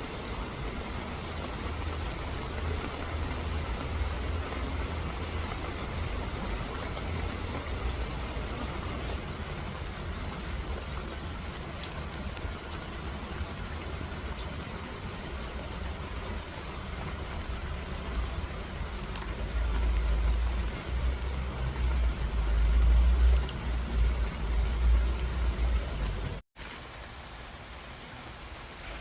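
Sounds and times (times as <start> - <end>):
rain pattering: 0.0 - 29.0.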